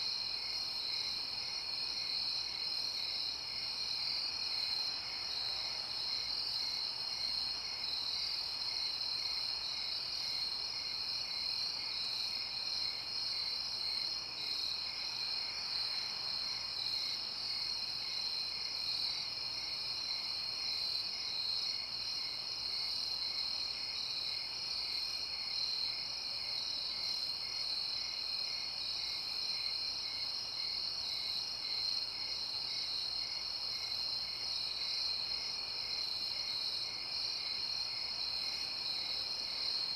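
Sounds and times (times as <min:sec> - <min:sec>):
soft repeating cricket chirp: 0:00.0 - 0:39.9.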